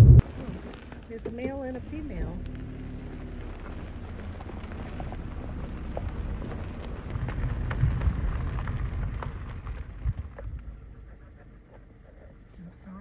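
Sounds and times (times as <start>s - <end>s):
wind buffeting microphone: 0.0s - 2.8s, 3.7s - 12.1s.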